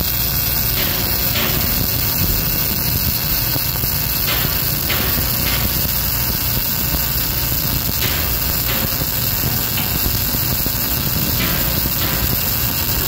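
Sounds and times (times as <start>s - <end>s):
arc welding crackle: 0.0s - 13.0s.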